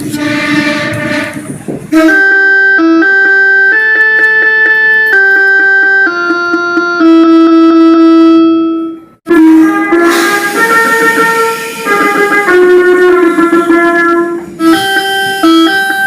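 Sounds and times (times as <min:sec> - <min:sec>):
electronic train horn tune: 0:00.0 - 0:16.0.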